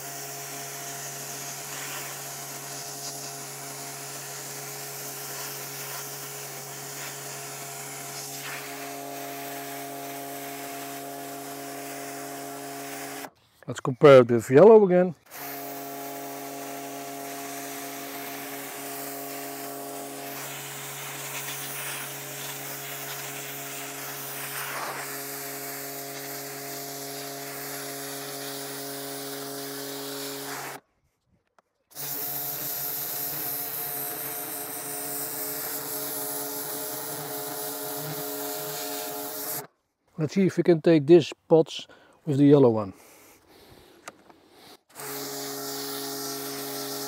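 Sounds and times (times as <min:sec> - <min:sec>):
water spray hissing: 0:00.0 - 0:13.3, 0:15.4 - 0:30.8, 0:32.0 - 0:39.7, 0:43.0 - 0:47.0
pressure washer motor humming: 0:00.0 - 0:13.4, 0:15.2 - 0:30.8, 0:31.9 - 0:39.7, 0:44.1 - 0:47.0.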